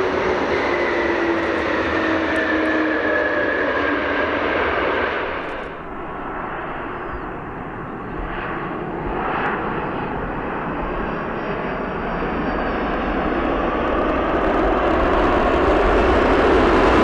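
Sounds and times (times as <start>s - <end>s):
jet engine noise: 0.0s - 17.0s.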